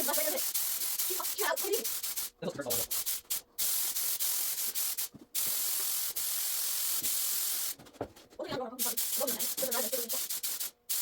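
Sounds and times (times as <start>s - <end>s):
spray gun hissing: 0.0s - 7.8s, 8.8s - 11.0s.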